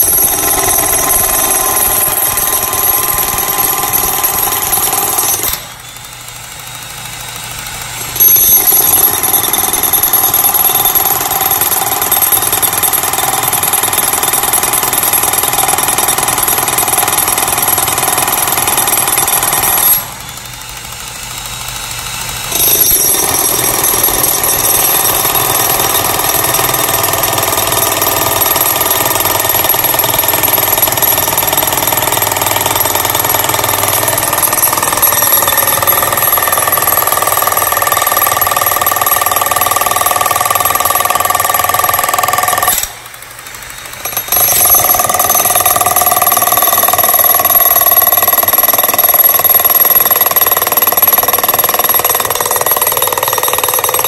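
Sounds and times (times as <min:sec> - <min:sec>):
jackhammer pounding concrete: 0:00.0 - 0:54.0.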